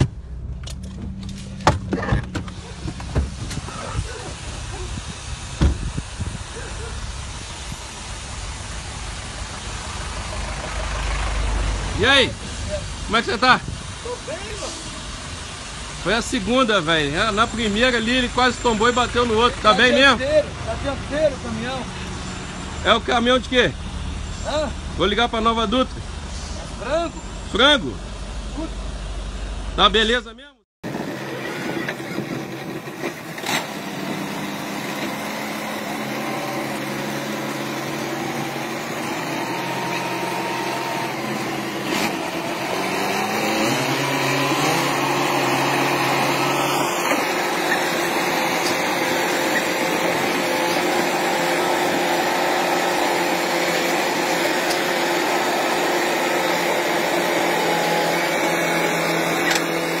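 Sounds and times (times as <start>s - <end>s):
tractor engines droning: 0.0s - 60.0s.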